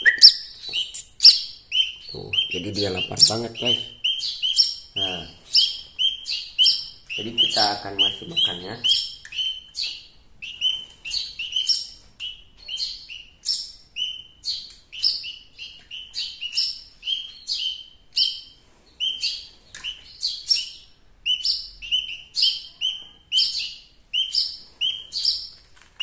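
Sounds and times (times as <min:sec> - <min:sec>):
nestlings' shrill begging chirps: 0:00.0 - 0:25.6.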